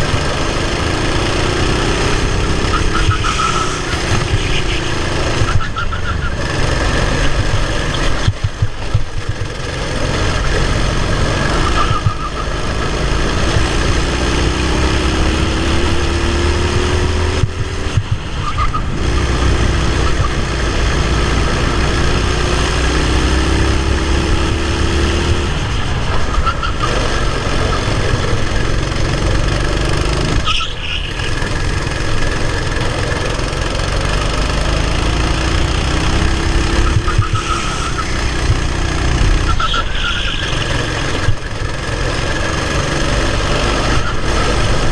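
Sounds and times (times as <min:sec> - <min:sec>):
racing kart engine accelerating: 0:00.0 - 0:44.9.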